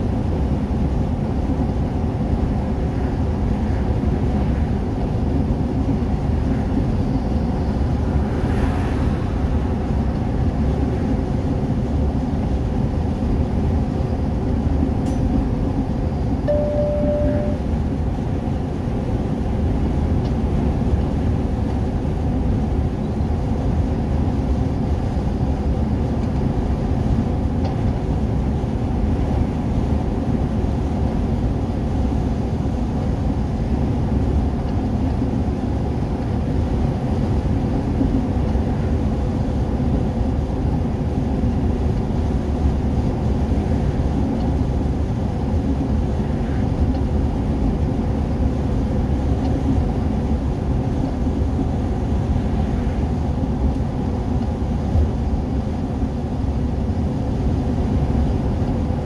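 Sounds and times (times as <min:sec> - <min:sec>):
faint constant hum: 0:00.0 - 0:59.0
road and engine rumble in cabin: 0:00.0 - 0:59.0.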